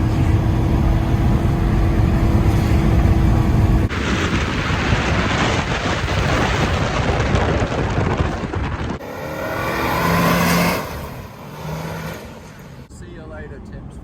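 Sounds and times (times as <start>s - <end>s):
wind noise: 0.0s - 11.3s
car engine and tyres rumbling: 0.0s - 14.0s.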